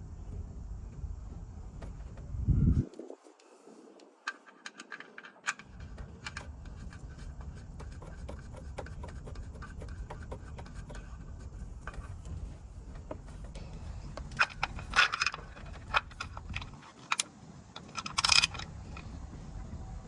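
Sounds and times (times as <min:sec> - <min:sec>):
low steady rumble: 0:00.0 - 0:03.8, 0:05.4 - 0:20.0
light clicks and scratches: 0:00.2 - 0:19.2.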